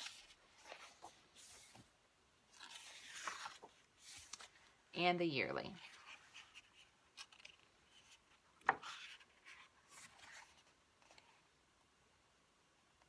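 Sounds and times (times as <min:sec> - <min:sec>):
paper pages rustling and turning: 0:00.0 - 0:04.8, 0:05.8 - 0:11.5.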